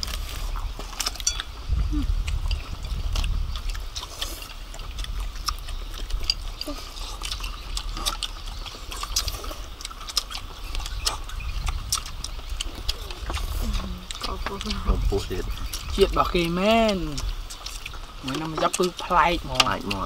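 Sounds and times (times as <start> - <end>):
chewing crispy food: 0.0 - 20.0.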